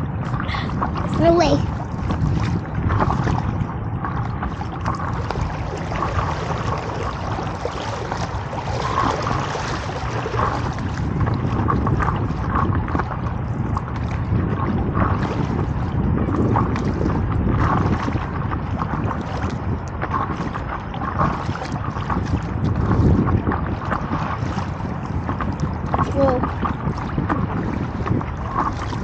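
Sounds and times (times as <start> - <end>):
water lapping against hull: 0.0 - 29.0
wind buffeting microphone: 0.0 - 29.0.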